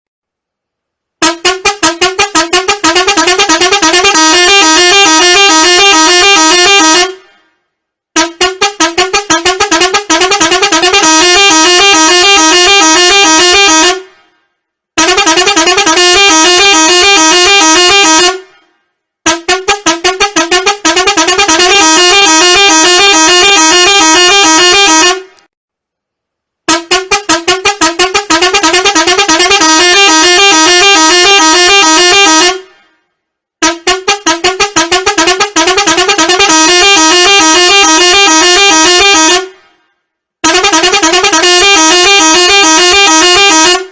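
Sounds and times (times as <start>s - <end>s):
loud horn-like alarm: 1.2s - 7.6s, 8.2s - 14.4s, 15.0s - 18.7s, 19.3s - 25.5s, 26.7s - 32.9s, 33.6s - 39.8s, 40.4s - 43.9s.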